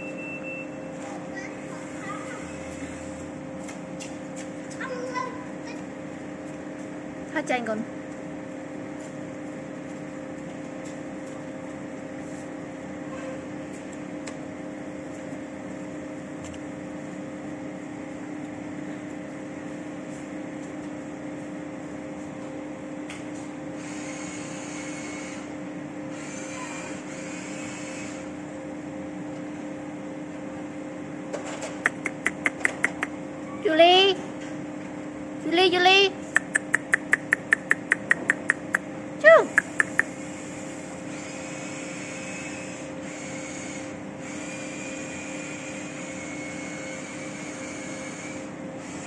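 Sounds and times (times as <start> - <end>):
machine hum: 5.0 - 49.0.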